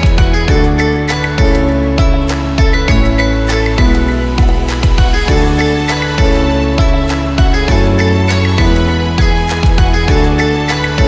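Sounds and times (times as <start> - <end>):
gentle plucked guitar music: 0.0 - 11.0.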